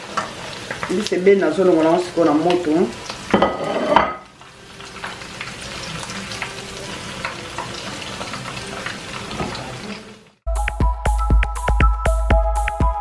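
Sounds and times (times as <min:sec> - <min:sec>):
fish sizzling in hot oil: 0:00.0 - 0:10.4.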